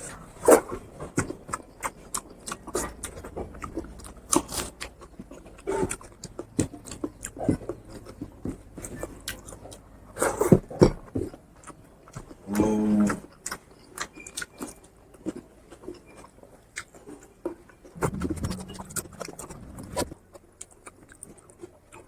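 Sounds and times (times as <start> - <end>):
person chewing and lip smacking: 1.0 - 9.8, 10.4 - 22.0.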